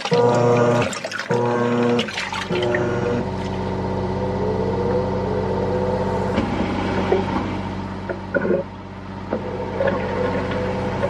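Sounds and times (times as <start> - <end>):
washing machine motor humming: 0.0 - 11.0.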